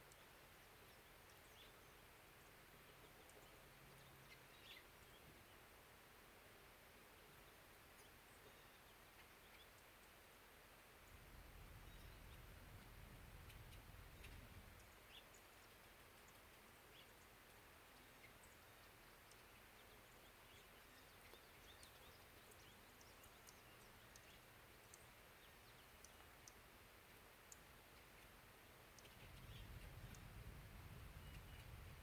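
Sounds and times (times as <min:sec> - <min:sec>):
tiny high ticks and chirps: 0:00.0 - 0:05.6, 0:11.0 - 0:32.0.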